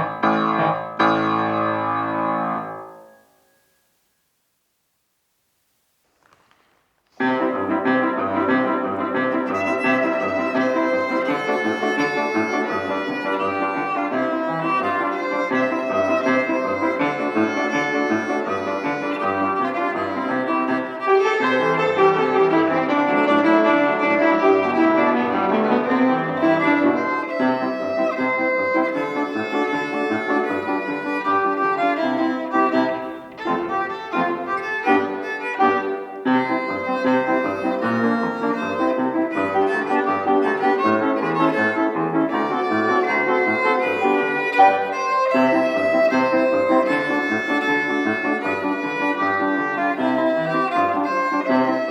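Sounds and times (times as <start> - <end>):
solo piano piece: 0.0 - 3.8, 7.2 - 51.9.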